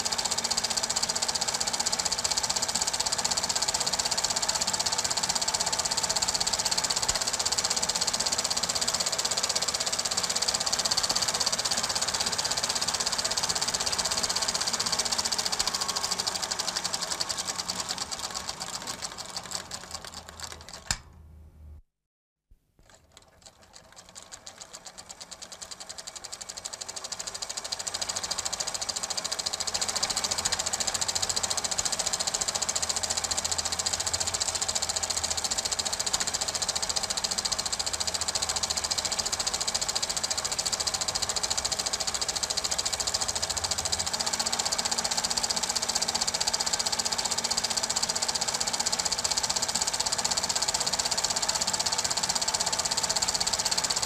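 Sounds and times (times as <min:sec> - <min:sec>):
film projector clattering: 0:00.0 - 0:21.1, 0:22.8 - 0:54.0.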